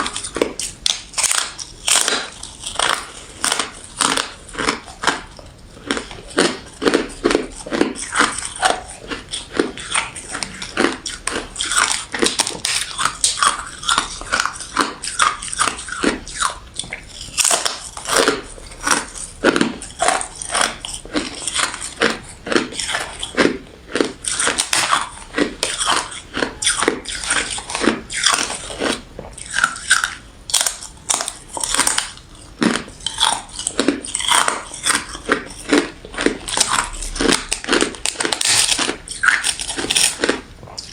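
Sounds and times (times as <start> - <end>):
person chewing crunchy ice: 0.0 - 40.9.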